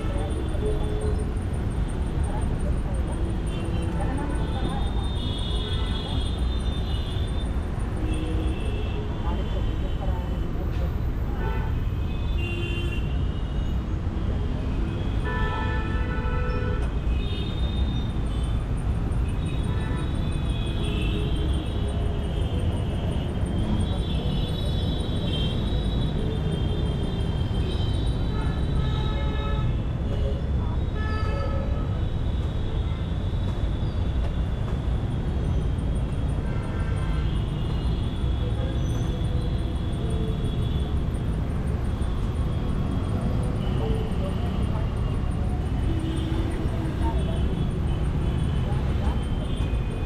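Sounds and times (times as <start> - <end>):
road and wind noise: 0.0 - 50.0.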